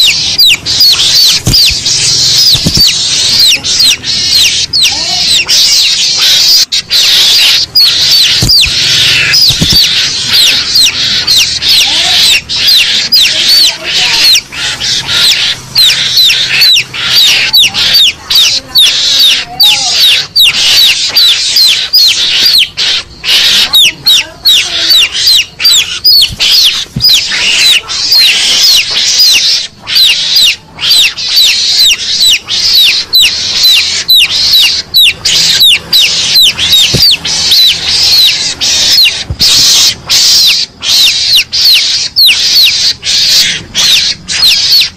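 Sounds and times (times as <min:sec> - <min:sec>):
shrill rapid chirps and squeaks: 0:00.0 - 0:44.9.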